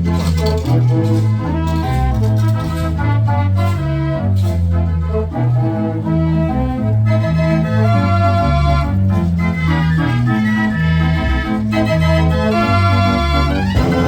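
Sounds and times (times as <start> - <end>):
organ music: 0.0 - 14.0.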